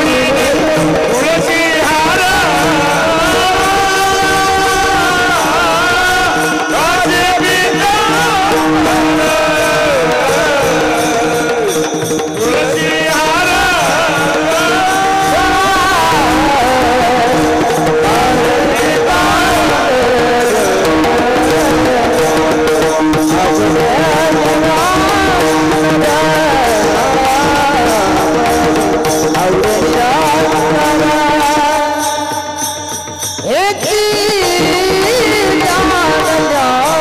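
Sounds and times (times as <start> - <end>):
hand drum accompaniment: 0.0 - 37.0
man singing devotional song: 0.0 - 37.0.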